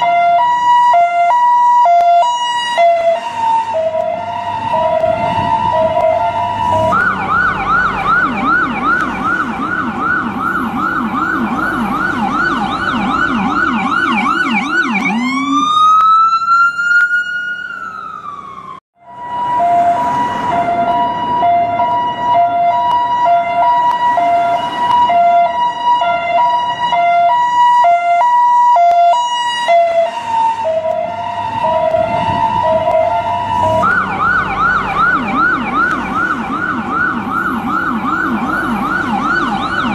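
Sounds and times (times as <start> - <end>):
ambulance siren: 0.0 - 39.9.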